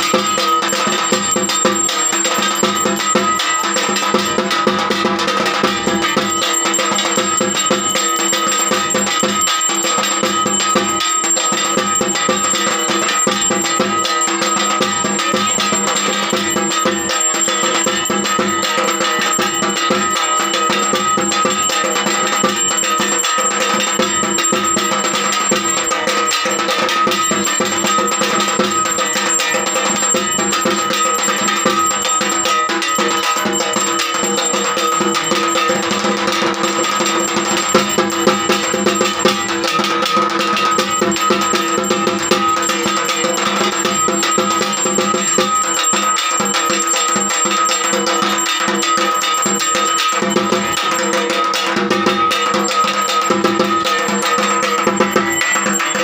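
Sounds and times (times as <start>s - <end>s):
fast continuous drumming: 0.0s - 56.0s
steady ringing tones: 0.0s - 56.0s.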